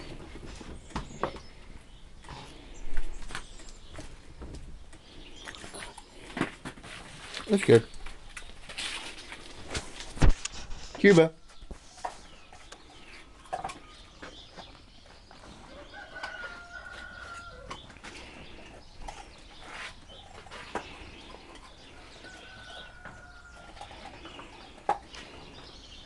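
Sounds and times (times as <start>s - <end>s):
birds calling: 0.0s - 26.0s.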